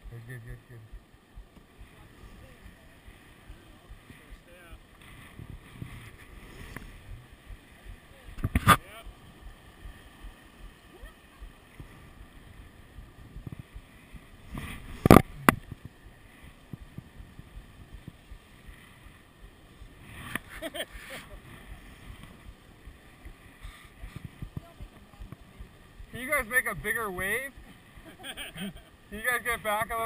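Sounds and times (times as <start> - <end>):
wind and water rumble: 0.0 - 30.0.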